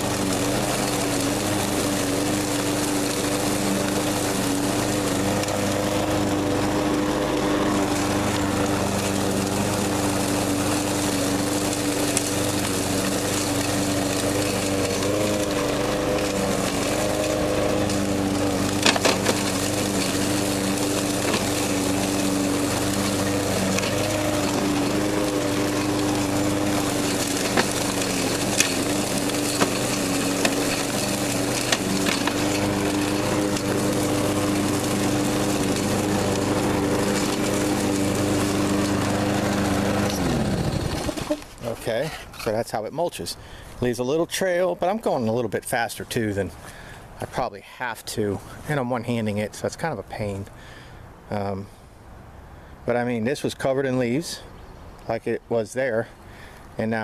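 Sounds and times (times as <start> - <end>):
lawn mower engine running: 0.0 - 47.5, 48.1 - 55.5.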